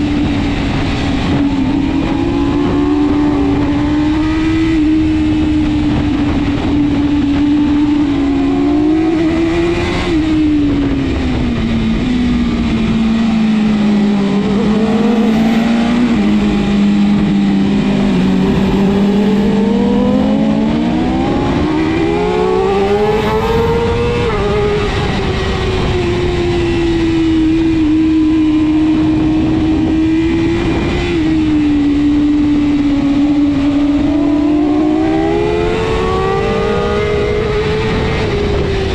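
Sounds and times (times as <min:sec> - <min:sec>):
motorcycle engine racing: 0:00.0 - 0:38.9.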